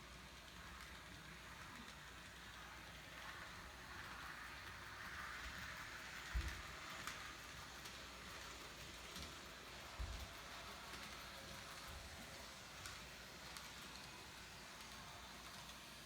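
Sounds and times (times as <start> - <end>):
model train whirring and clicking: 0.0 - 16.0.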